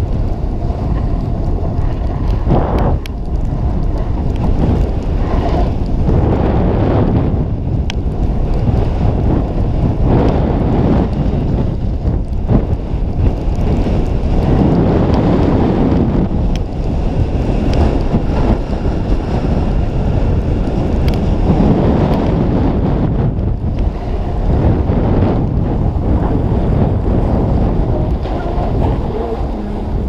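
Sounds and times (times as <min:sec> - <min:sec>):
snowboard sliding over snow: 0:00.0 - 0:30.0
wind buffeting microphone: 0:00.0 - 0:30.0.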